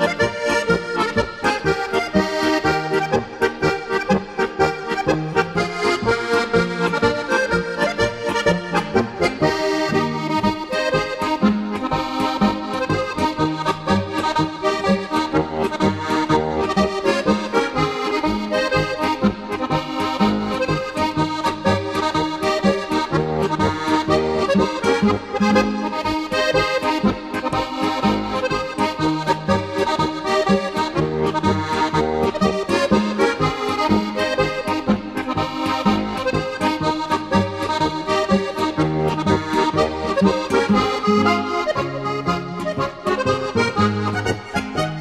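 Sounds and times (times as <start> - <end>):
accordion folk tune: 0.0 - 45.0
oom-pah bass notes: 0.0 - 45.0.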